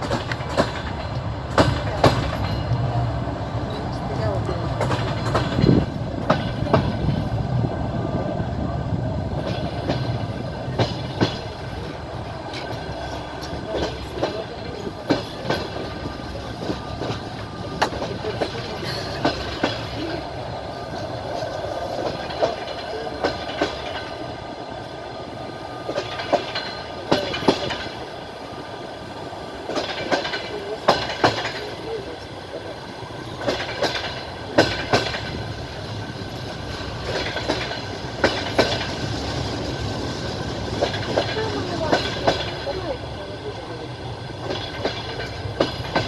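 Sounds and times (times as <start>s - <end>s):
train wheels clattering on rails: 0.0s - 46.0s.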